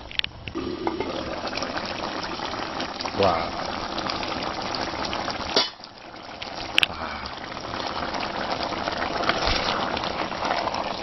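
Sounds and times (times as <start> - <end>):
soup bubbling in a pot: 0.0 - 11.0.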